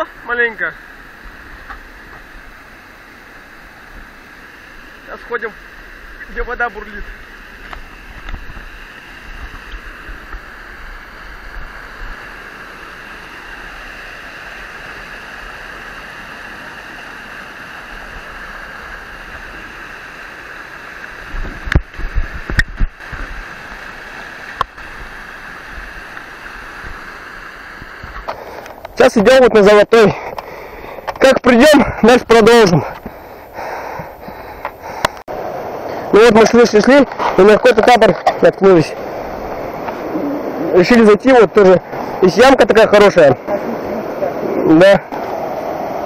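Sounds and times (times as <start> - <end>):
whitewater rushing over boulders: 0.0 - 46.0.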